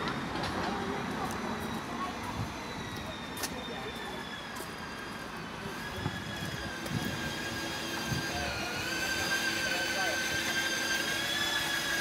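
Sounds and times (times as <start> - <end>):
high-pitched machinery whine: 0.0 - 12.0.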